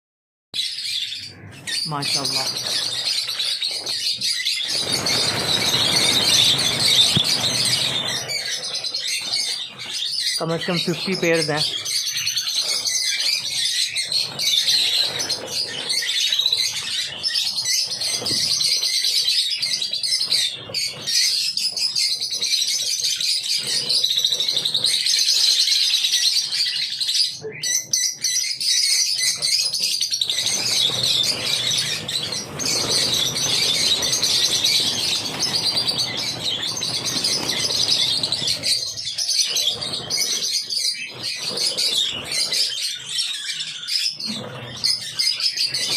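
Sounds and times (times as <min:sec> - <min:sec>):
flock of lovebirds chattering: 0:00.6 - 0:45.9.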